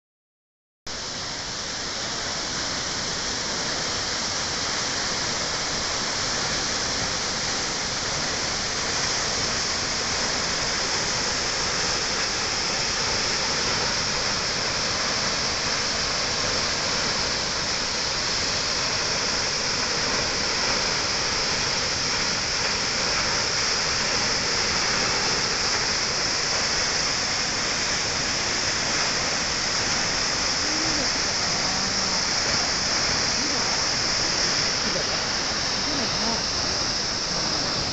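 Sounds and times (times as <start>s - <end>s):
waterfall rushing: 0.9s - 37.9s.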